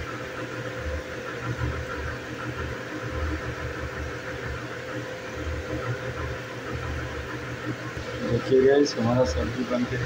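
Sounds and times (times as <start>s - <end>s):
mechanical hum: 0.0s - 10.0s.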